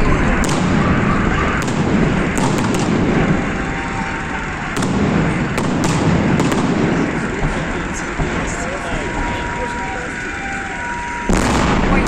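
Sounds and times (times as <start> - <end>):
sharp firework cracks: 0.0 - 10.1, 10.8 - 12.0
firework shells booming: 0.0 - 12.0.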